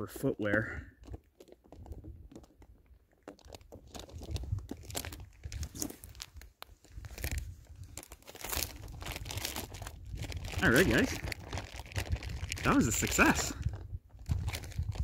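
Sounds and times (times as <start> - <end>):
plastic bag crinkling: 0.9 - 15.0.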